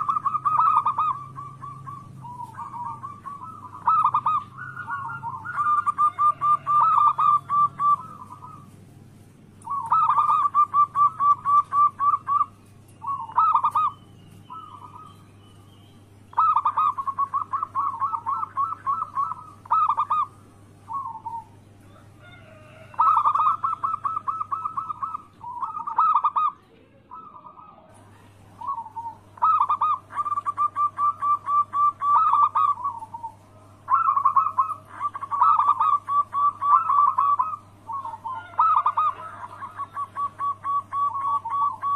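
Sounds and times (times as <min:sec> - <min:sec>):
doves cooing: 0:00.0 - 0:41.9
steady low hum: 0:00.0 - 0:41.9.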